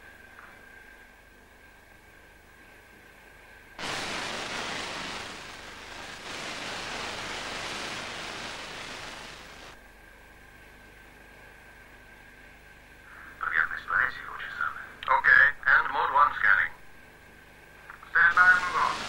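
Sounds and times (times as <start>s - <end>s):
loud static hiss: 0.0s - 19.0s.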